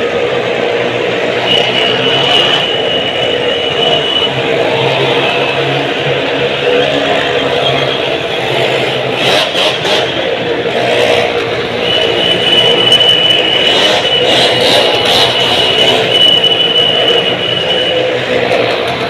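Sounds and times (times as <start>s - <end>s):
steady high tone: 0.0s - 9.2s, 10.1s - 19.0s
motorcycle engines revving: 0.0s - 19.0s.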